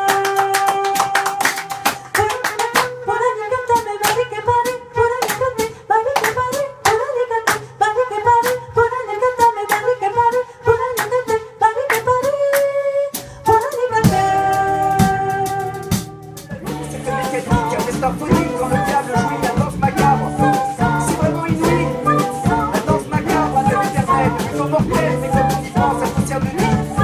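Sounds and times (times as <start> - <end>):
flute: 0.0 - 27.0
live band music: 0.0 - 27.0
woman singing: 0.0 - 27.0.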